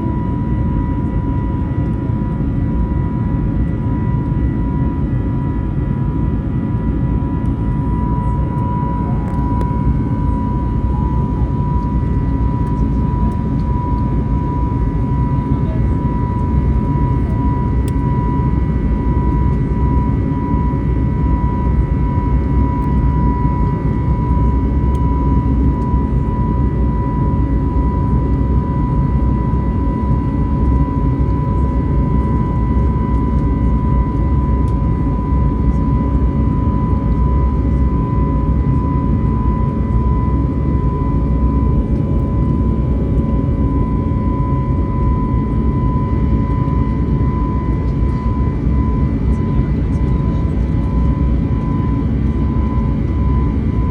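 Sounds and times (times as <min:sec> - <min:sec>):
thin steady whine: 0:00.0 - 0:53.9.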